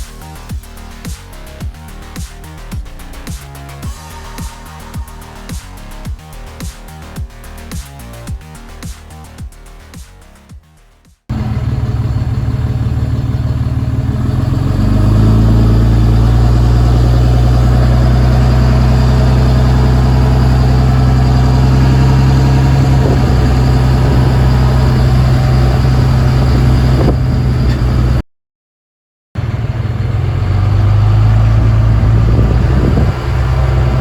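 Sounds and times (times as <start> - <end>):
truck engine running: 0.0 - 10.4, 11.3 - 28.2, 29.4 - 34.0.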